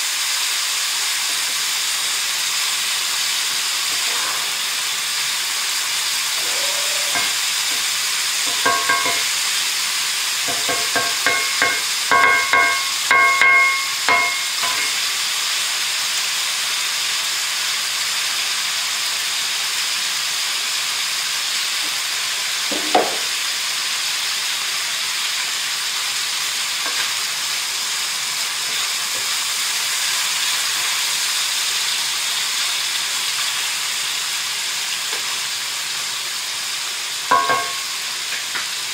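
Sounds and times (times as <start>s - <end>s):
bacon sizzling in a pan: 0.0s - 38.9s.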